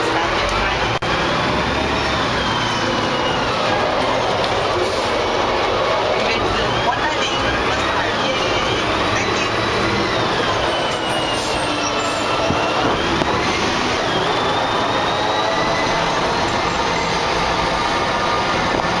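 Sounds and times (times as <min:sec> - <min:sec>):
bus engine and road noise: 0:00.0 - 0:19.0.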